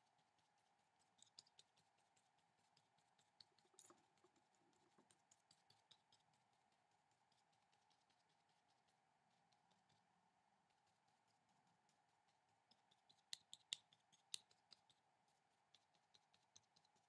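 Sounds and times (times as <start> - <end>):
soft ticks and scratches: 0.0 - 17.0.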